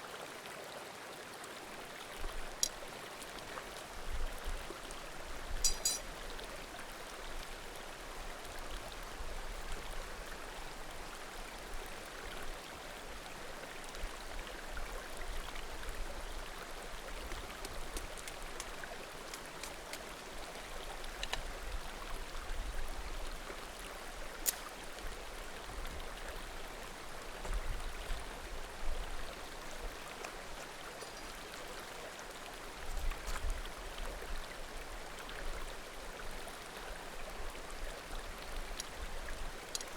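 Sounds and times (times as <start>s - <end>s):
mountain creek murmuring: 0.0s - 39.9s.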